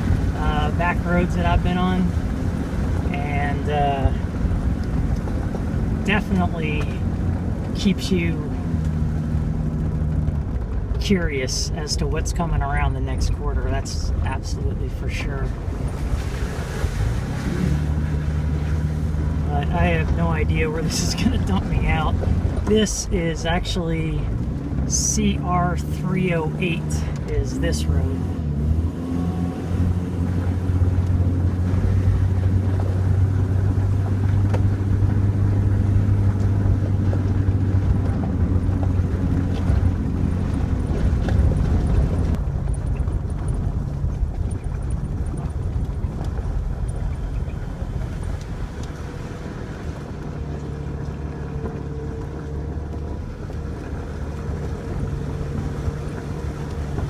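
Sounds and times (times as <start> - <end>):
car engine drone: 0.0 - 57.0
tyre noise on dirt road: 0.0 - 57.0.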